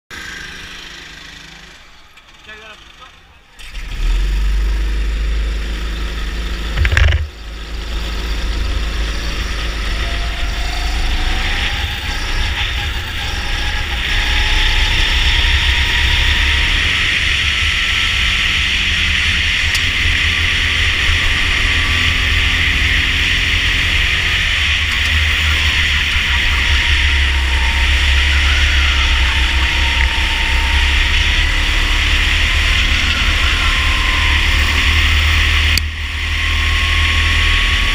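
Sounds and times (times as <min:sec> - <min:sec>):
kart engine running: 0:00.1 - 0:37.9.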